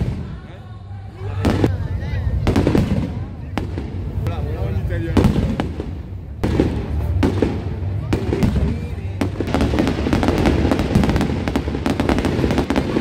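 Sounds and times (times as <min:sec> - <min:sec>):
fireworks exploding: 0:00.0 - 0:00.5, 0:01.3 - 0:13.0.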